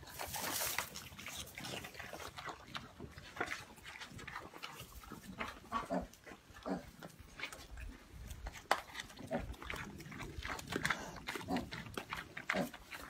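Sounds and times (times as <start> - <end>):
pig grunting: 0.0 - 7.4, 9.0 - 13.0
animals crunching and munching food: 0.0 - 13.0.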